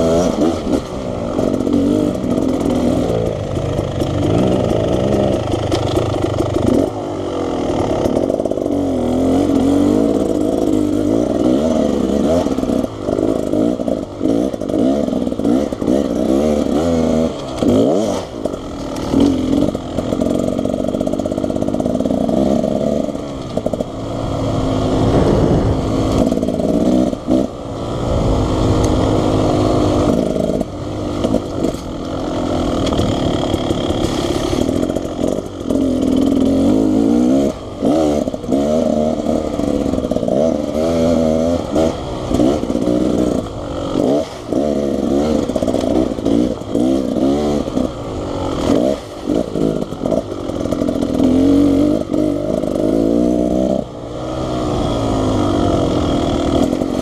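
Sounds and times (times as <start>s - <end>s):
dirt bike two-stroke engine: 0.0s - 57.0s.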